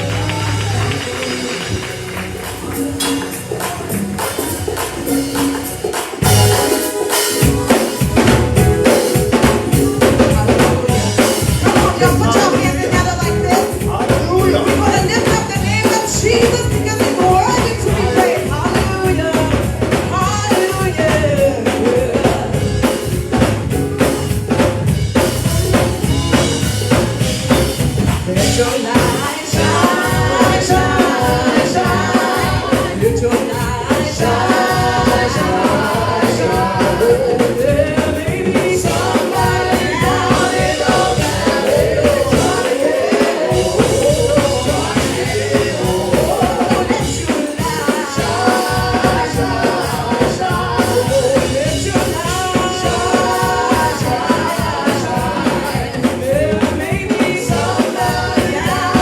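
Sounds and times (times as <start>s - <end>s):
backing singers: 0.0s - 59.0s
drums playing steady beat: 0.0s - 59.0s
lead singer: 0.0s - 59.0s.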